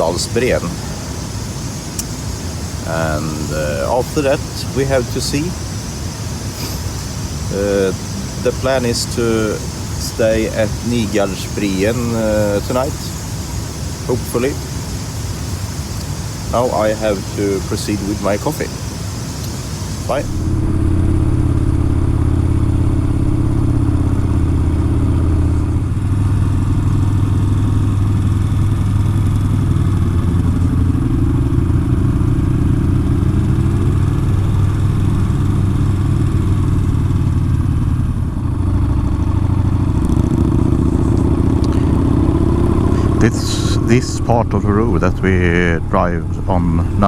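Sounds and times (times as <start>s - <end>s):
motorcycle engine running: 0.0s - 18.8s, 19.4s - 47.0s.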